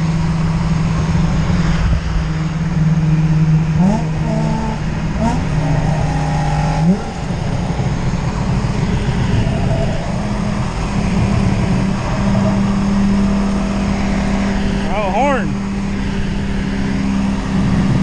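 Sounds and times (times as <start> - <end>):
car engine droning: 0.0 - 18.0
road and tyre noise: 0.0 - 18.0.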